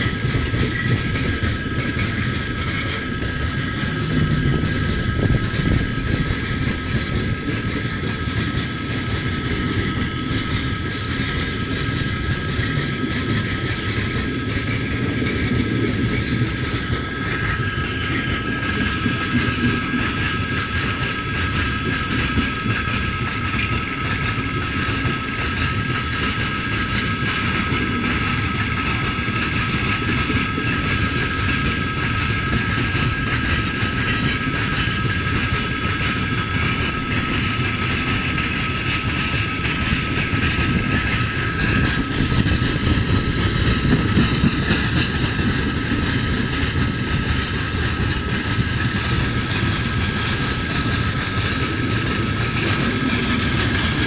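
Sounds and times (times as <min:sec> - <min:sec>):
rumble of train wheels on rails: 0:00.0 - 0:54.0
steady high-pitched tone: 0:00.0 - 0:54.0.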